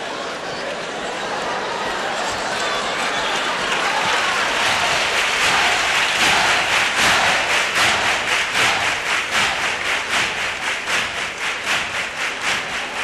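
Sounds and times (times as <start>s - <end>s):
audience clapping in rhythm: 0.7s - 13.0s.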